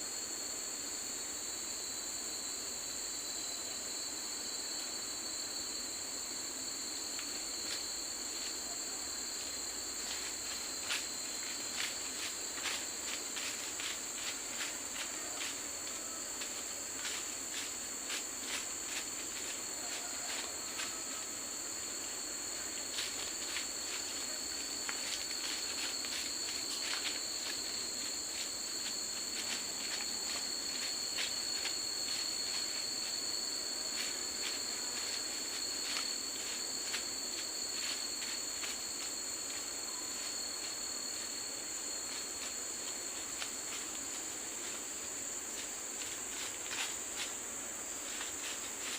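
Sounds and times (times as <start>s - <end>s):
insects buzzing shrilly: 0.0s - 48.9s.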